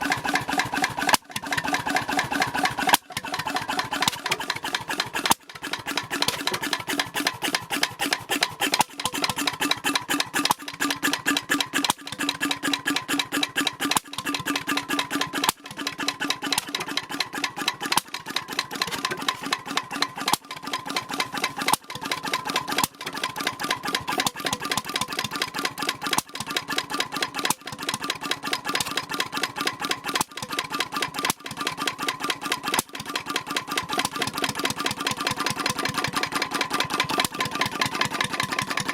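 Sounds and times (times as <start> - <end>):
portable engine clattering: 0.0 - 38.9.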